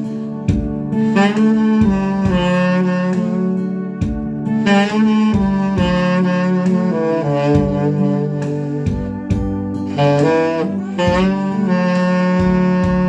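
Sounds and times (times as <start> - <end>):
backing music with drum beat: 0.0 - 13.0
tenor saxophone melody: 0.0 - 13.0.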